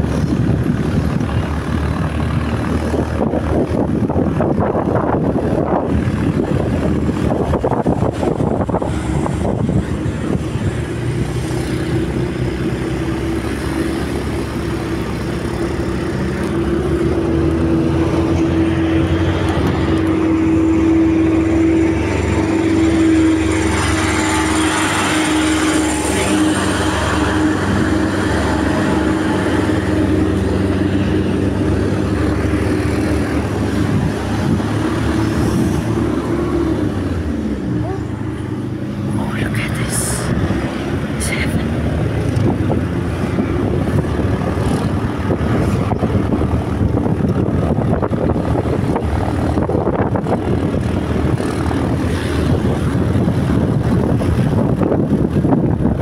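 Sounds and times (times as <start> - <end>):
tyre and wind noise: 0.0 - 39.6, 40.3 - 56.0
motorcycle engine running: 0.0 - 56.0.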